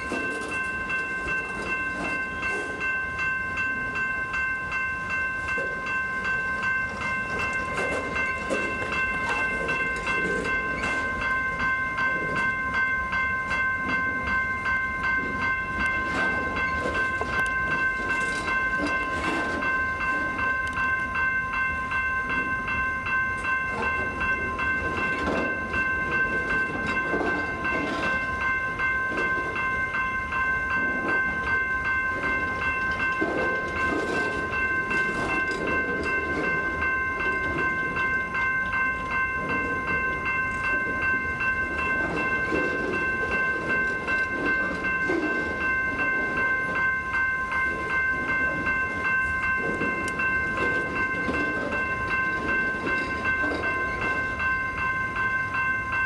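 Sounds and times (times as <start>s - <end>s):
train wheels rumbling over rail joints: 5.2s - 21.3s, 23.1s - 55.4s.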